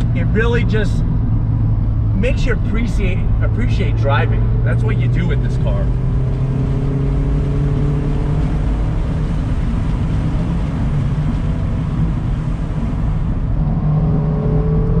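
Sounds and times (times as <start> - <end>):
car engine revving: 0.0 - 15.0
wind and road noise: 0.0 - 15.0.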